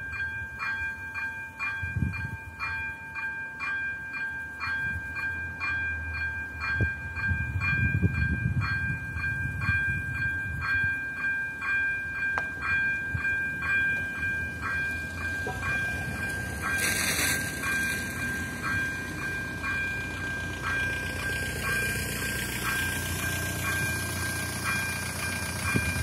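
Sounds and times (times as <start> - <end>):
level crossing bell ringing: 0.0 - 26.0.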